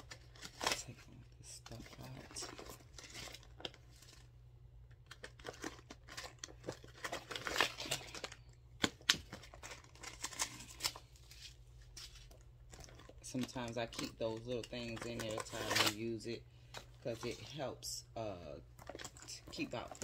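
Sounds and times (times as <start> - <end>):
paper and plastic crinkling: 0.0 - 4.3, 5.0 - 18.0, 18.7 - 20.0.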